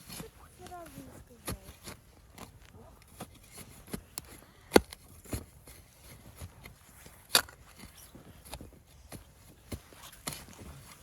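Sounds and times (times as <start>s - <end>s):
sticks and snow crunching: 0.0s - 11.0s.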